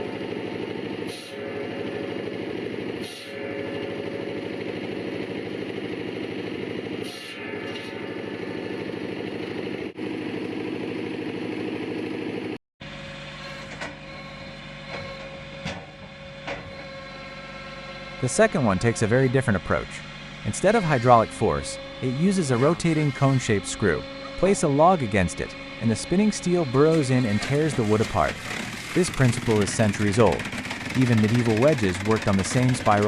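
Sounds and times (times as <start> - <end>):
log splitter engine running: 0.0 - 33.0
machine hum: 0.0 - 33.0.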